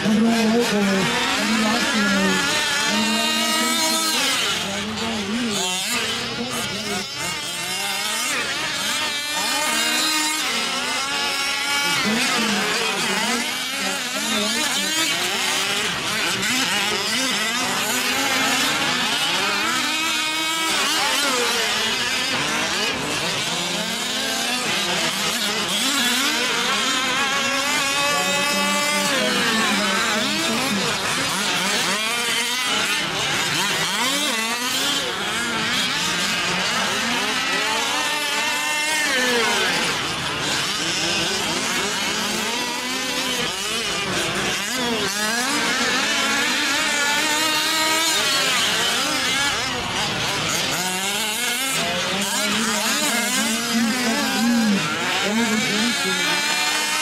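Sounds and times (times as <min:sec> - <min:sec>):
rc truck engines revving: 0:00.0 - 0:57.0.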